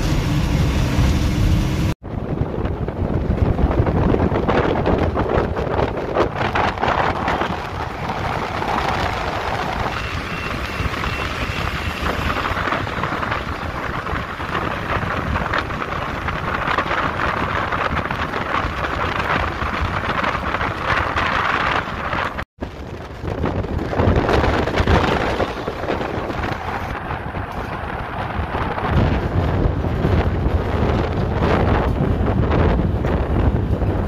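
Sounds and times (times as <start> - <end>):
bus engine and tyre noise: 0.0 - 34.0
wind buffeting at bus window: 0.0 - 34.0.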